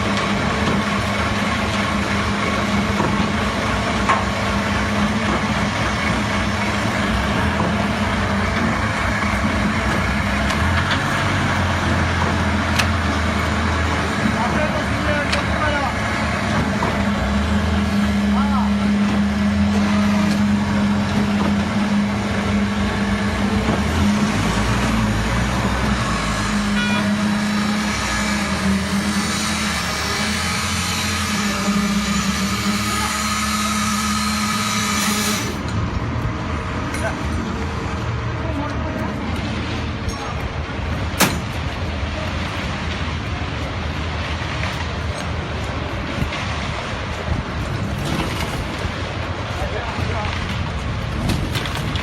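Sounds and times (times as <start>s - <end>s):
concrete mixer pump droning: 0.0s - 52.0s
deep machine rumble: 0.0s - 52.0s.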